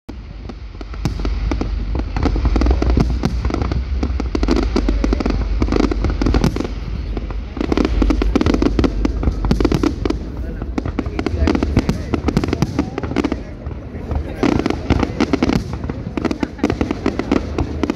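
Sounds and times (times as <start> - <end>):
low rumble: 0.1 - 16.2
fireworks bangs and crackles: 0.1 - 17.9.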